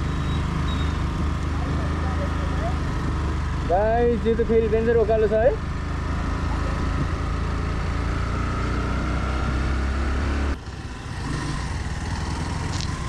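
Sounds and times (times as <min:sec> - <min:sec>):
motorcycle running: 0:00.0 - 0:13.0
wind and road noise: 0:00.0 - 0:13.0.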